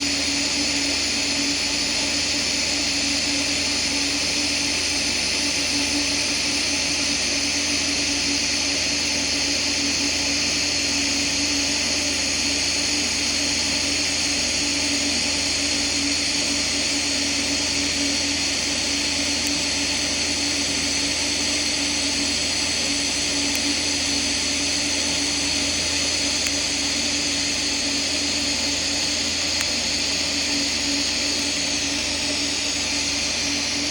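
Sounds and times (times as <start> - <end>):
welding arc hissing and buzzing: 0.0 - 33.9.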